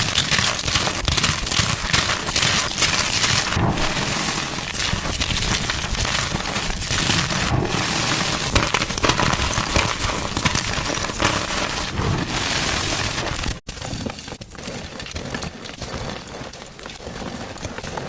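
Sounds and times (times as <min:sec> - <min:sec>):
chalk crunching: 0:00.0 - 0:18.0.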